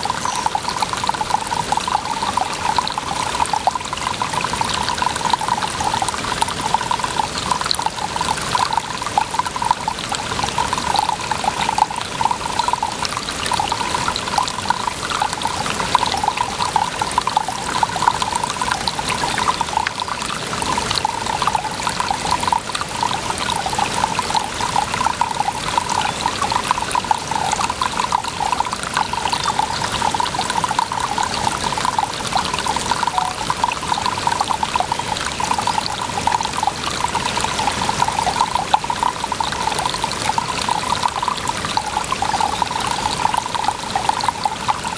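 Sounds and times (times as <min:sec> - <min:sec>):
water running and splashing: 0:00.0 - 0:44.9.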